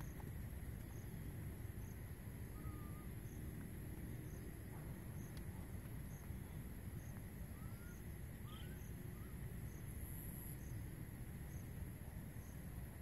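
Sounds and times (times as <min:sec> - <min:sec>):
high insect whine: 0:00.0 - 0:13.0.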